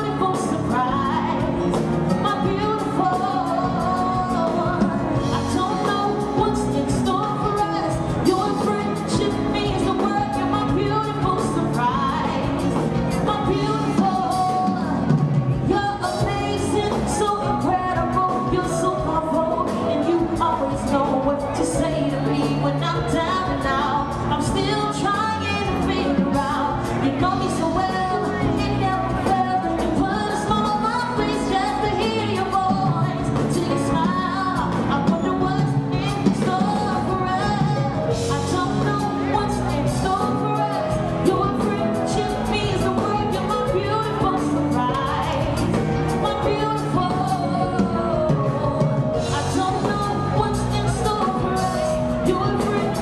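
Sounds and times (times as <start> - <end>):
bass guitar: 0.0 - 53.0
drum kit: 0.0 - 53.0
woman singing: 0.0 - 53.0.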